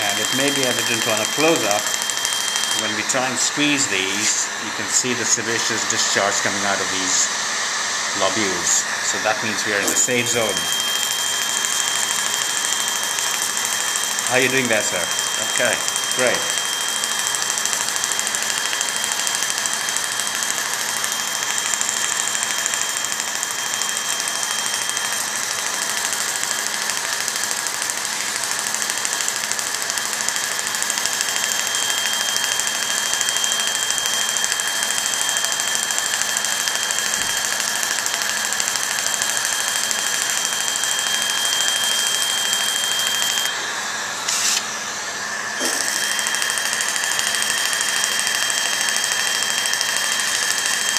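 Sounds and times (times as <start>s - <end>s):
continuous high tone: 0.0s - 6.8s, 8.2s - 27.3s, 28.8s - 43.6s, 45.6s - 50.9s.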